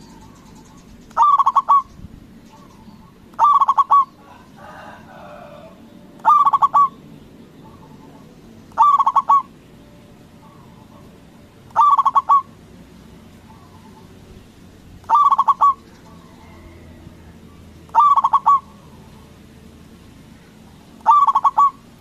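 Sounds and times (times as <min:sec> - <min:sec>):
dove cooing: 0:00.0 - 0:01.9, 0:02.5 - 0:14.3, 0:15.0 - 0:22.0.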